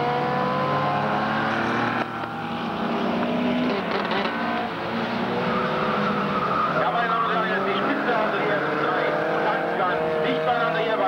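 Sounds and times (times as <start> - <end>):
racing car engines passing: 0.0 - 11.0.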